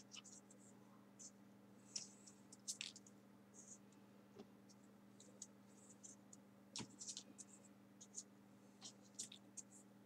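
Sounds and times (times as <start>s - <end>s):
paper rustling and scratching: 0.0s - 3.8s, 5.2s - 9.9s
steady low hum: 0.0s - 10.0s.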